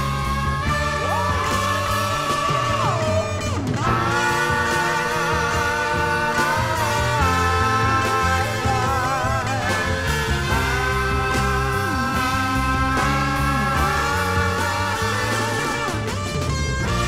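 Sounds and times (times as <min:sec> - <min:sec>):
bass line: 0:00.0 - 0:17.0
bending lead guitar note: 0:00.0 - 0:17.0.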